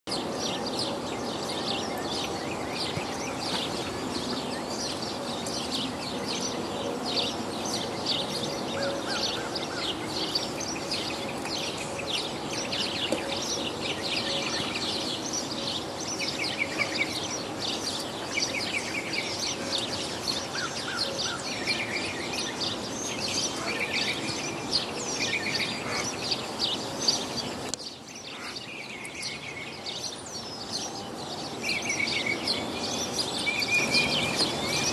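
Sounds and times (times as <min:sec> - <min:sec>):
birds chirping: 0:00.1 - 0:34.9
steady background noise: 0:00.1 - 0:34.9.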